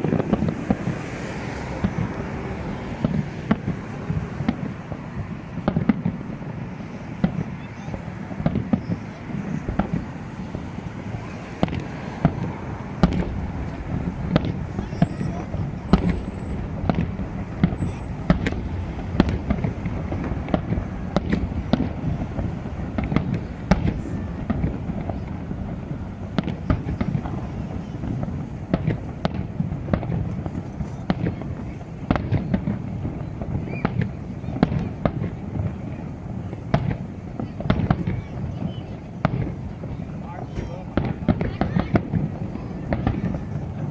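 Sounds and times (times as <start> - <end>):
continuous low rumble: 0.0 - 43.9
fireworks bangs: 0.0 - 43.9.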